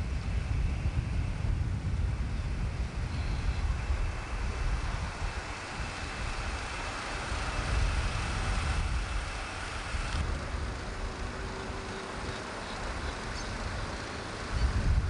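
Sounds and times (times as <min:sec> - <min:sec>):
road traffic: 0:00.0 - 0:15.0
wind rumbling on microphone: 0:00.0 - 0:15.0.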